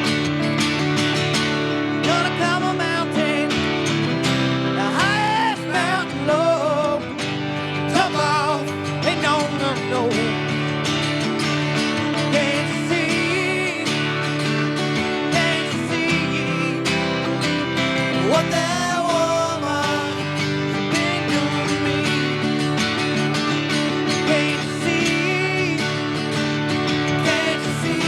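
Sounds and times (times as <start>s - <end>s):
bending guitar melody: 0.0s - 28.0s
country band playing live: 0.0s - 28.0s.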